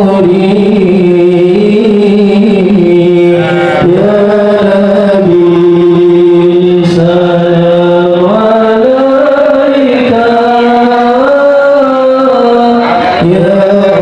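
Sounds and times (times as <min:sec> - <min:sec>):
man reciting in melodic chant: 0:00.0 - 0:14.0.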